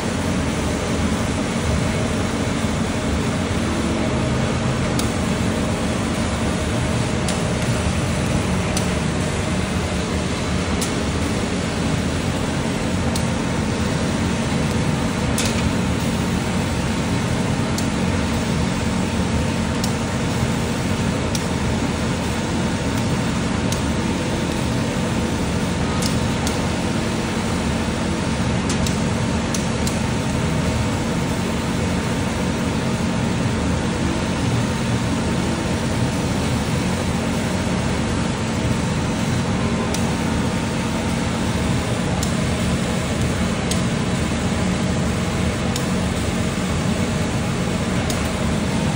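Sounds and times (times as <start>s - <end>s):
laser cutter fans humming: 0.0s - 48.9s.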